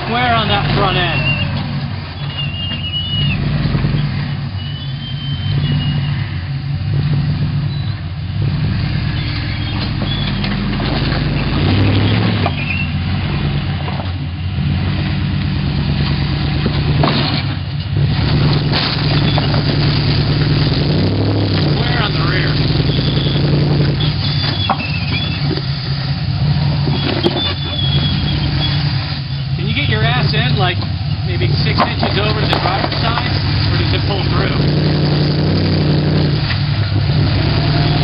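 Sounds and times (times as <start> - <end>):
buggy engine running at low revs: 0.0 - 38.0.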